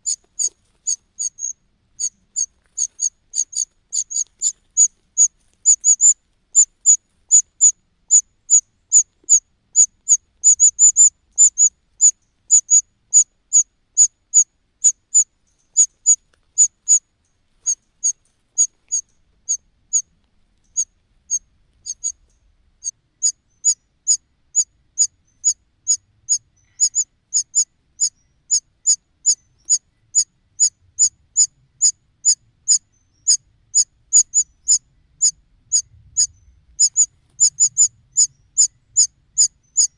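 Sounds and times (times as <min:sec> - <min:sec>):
cuckoo chick begging calls: 0:00.0 - 0:17.0, 0:23.2 - 0:39.9.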